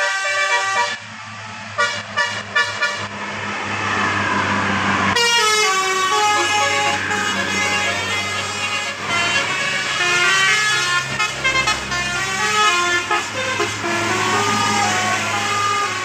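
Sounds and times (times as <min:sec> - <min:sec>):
bus horn playing a tune: 0:00.0 - 0:01.2, 0:01.8 - 0:03.2, 0:05.2 - 0:16.0
low engine hum: 0:01.0 - 0:16.0.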